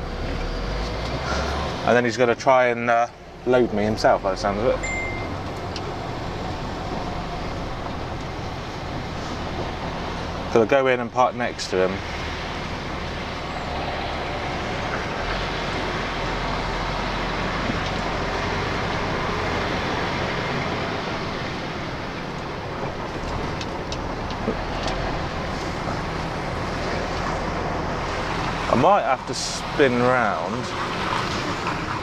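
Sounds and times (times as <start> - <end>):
lorry diesel engine rumble: 0.0 - 32.0.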